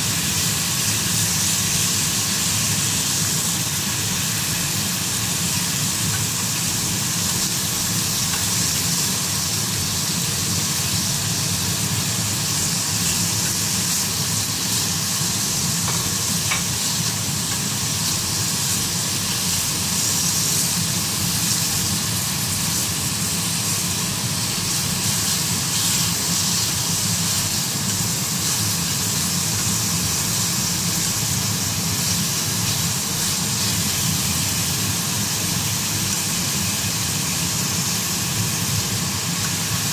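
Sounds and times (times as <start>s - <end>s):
meat sizzling in oil: 0.0s - 39.9s.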